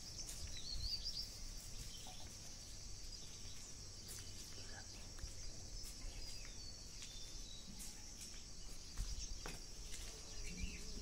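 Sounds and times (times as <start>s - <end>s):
insects chirping: 0.0s - 11.0s
faint clicks and scuffs: 1.6s - 10.9s.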